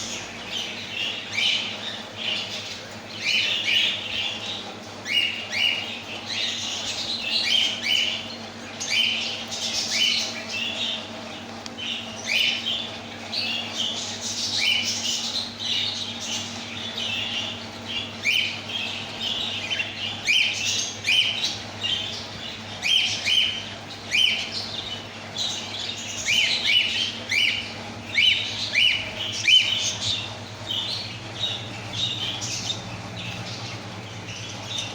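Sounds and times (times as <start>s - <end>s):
budgies and cockatiels squawking: 0.0s - 34.9s.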